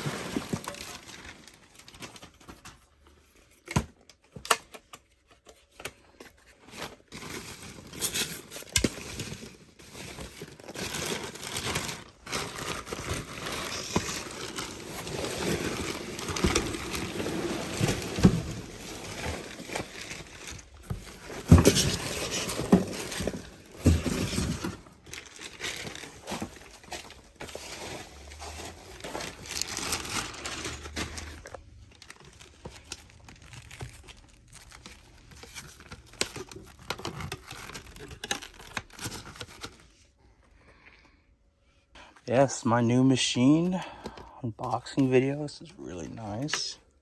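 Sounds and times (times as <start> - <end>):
packaging crinkling and tearing: 0.0 - 40.1.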